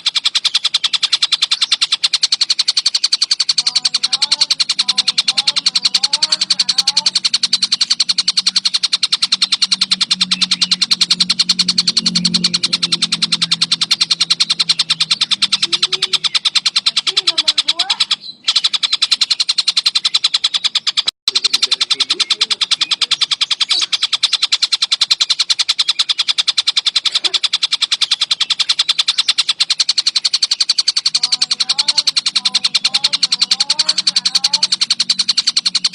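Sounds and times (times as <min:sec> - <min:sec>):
kingfisher rattling call: 0:00.0 - 0:35.9.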